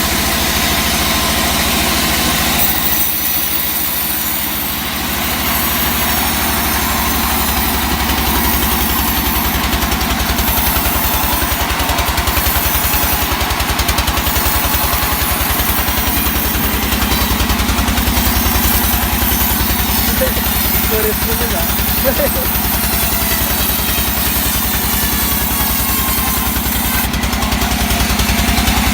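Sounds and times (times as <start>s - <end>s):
sawmill engine throbbing: 0.0s - 28.9s.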